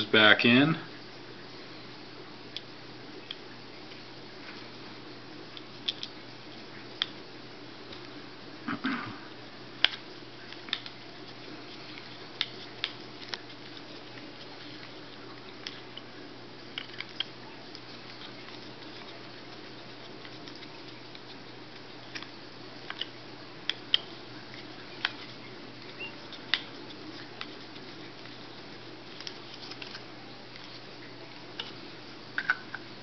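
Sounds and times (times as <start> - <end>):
faint steady background noise: 0.0 - 33.0.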